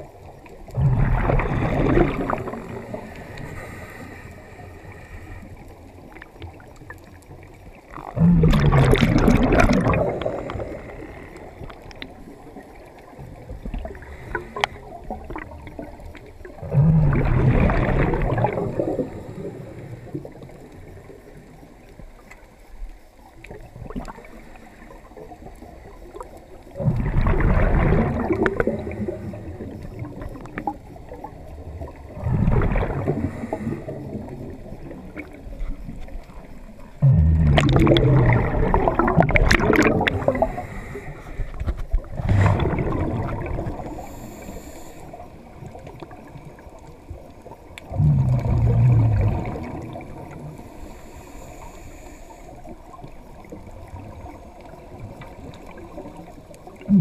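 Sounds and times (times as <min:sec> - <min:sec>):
faint clicking and crackling: 0:00.0 - 0:57.0
water bubbling and gurgling: 0:00.0 - 0:57.0.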